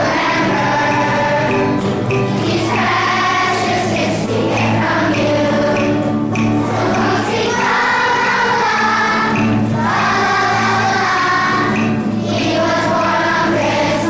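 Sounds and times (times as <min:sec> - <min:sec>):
children's choir singing: 0:00.0 - 0:14.0
musical accompaniment: 0:00.0 - 0:14.0.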